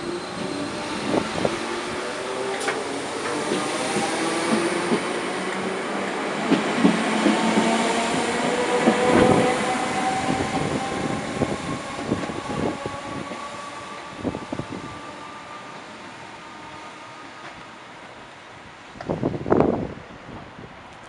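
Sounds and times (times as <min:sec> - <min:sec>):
electric train whine: 0:00.0 - 0:20.9.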